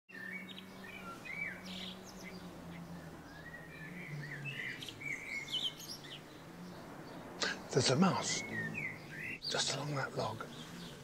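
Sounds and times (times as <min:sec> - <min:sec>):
birds chirping and calling: 0:00.1 - 0:11.0.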